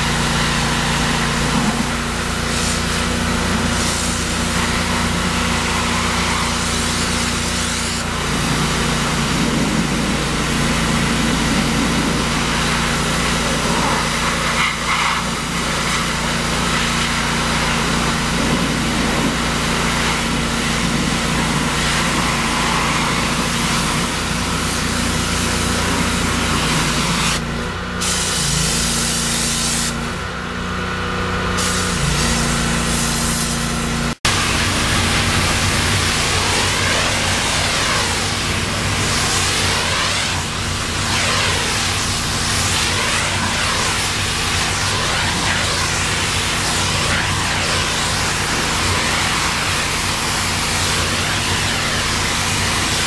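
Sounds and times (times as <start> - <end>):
pressure washer spray hissing: 0.0 - 30.2, 31.6 - 53.0
engine hum: 0.0 - 53.0.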